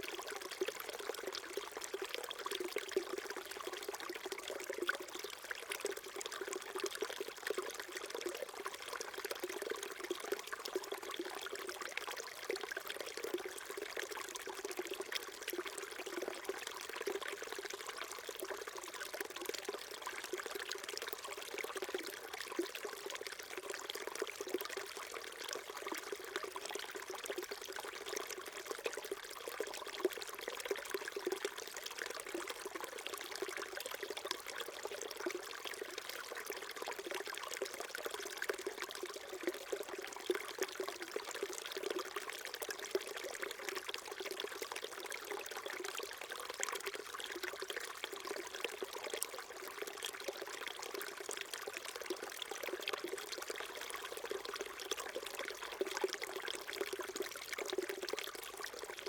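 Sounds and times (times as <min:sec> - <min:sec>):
stream burbling over stones: 0:00.0 - 0:59.0.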